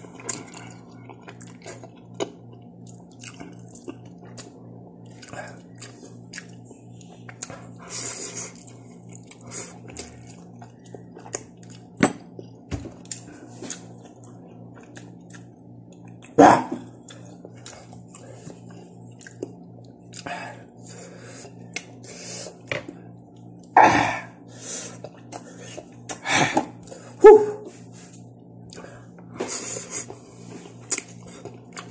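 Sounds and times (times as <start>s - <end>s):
person chewing noodles: 0.0s - 31.9s
steady low hum: 0.0s - 31.9s.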